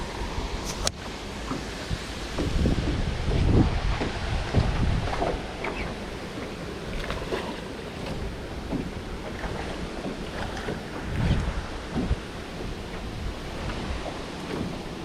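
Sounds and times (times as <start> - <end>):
water lapping against boat: 0.0 - 15.0
wind buffeting microphone: 0.0 - 15.0.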